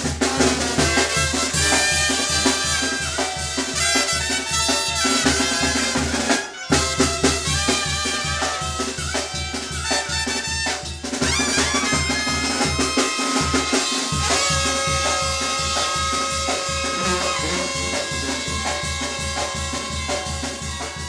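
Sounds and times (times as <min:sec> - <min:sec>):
brass band playing dance music: 0:00.0 - 0:21.0.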